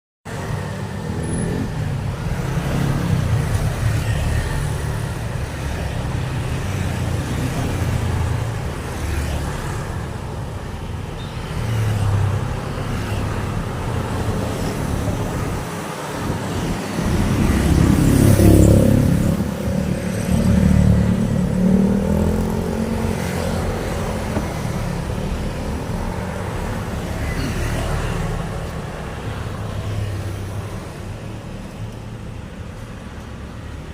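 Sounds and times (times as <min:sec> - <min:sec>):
vehicles passing on road: 0:00.3 - 0:33.9.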